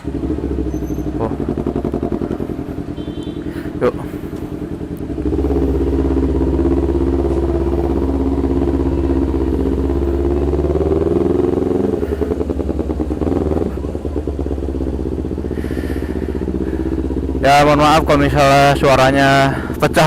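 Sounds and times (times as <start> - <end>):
motorcycle engine with loud exhaust: 0.0 - 20.0.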